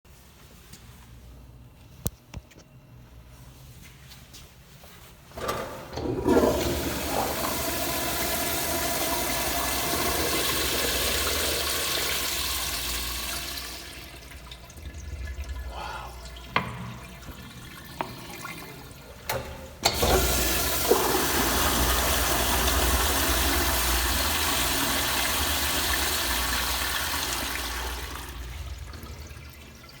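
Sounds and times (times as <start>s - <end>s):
toilet flushing: 5.4s - 30.0s.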